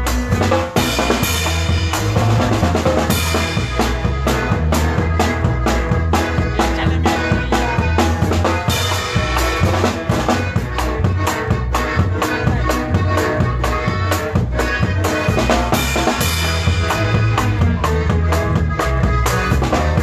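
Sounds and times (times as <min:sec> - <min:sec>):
band playing with drums and bass: 0:00.0 - 0:20.0.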